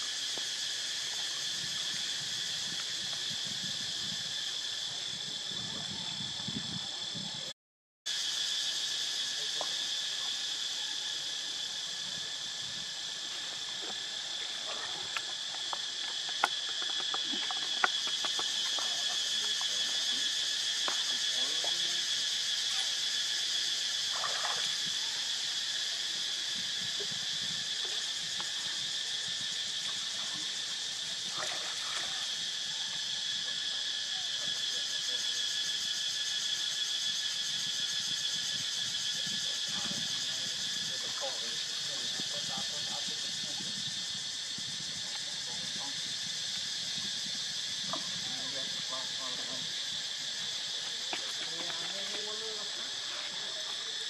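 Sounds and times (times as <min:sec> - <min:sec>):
shrill insect chorus: 0:00.0 - 0:07.5, 0:08.1 - 0:54.0.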